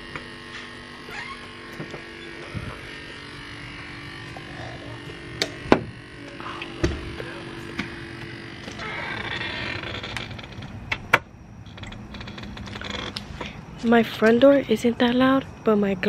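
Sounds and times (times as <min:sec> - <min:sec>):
electric aerator pump humming: 0:00.0 - 0:16.0.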